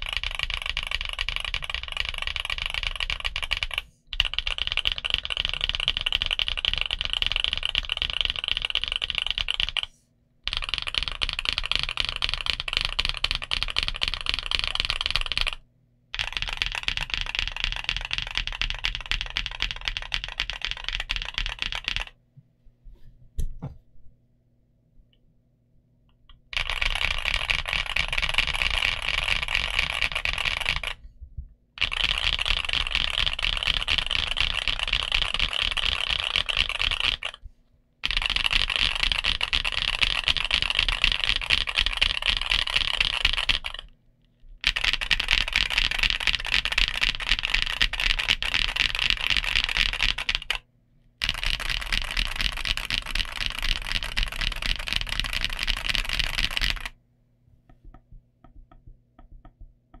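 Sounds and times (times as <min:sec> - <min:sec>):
fast mechanical keyboard typing: 0:00.0 - 0:09.9, 0:10.5 - 0:15.6, 0:16.2 - 0:22.1, 0:26.5 - 0:31.0, 0:31.8 - 0:37.4, 0:38.0 - 0:43.9, 0:44.6 - 0:50.6, 0:51.2 - 0:57.0.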